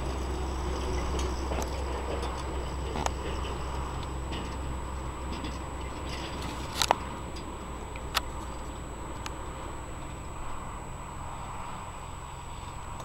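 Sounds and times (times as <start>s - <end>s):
farm machinery engine rumble: 0.0s - 13.0s.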